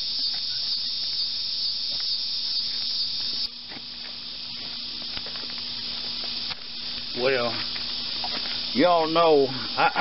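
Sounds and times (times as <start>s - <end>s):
crickets chirping: 0.0s - 10.0s
faint steady hum: 0.0s - 10.0s.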